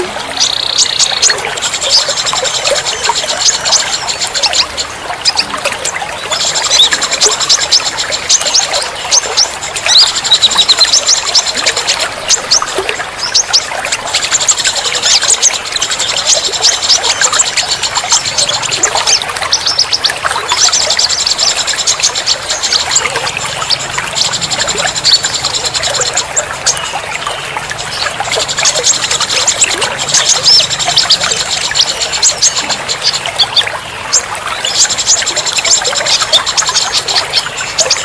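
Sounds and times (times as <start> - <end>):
songbirds chirping and trilling: 0.0 - 38.0
trickle of running water: 0.0 - 38.0.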